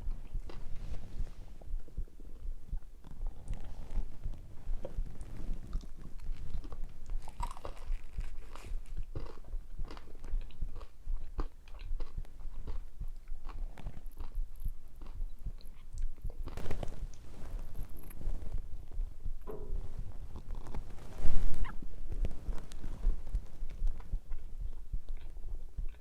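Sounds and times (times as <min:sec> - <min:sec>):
person chewing food: 0:00.0 - 0:02.0, 0:02.8 - 0:19.0, 0:22.1 - 0:26.0.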